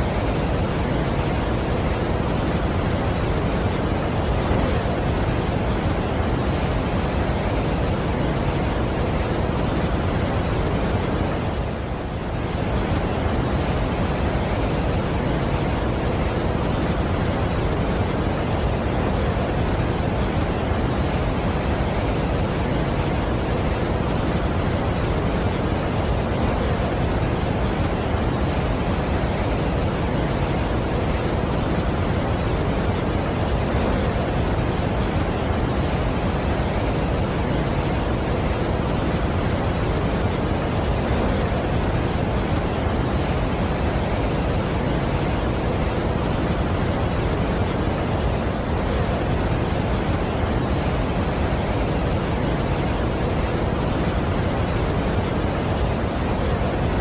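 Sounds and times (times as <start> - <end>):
large waterfall rushing: 0.0 - 57.0.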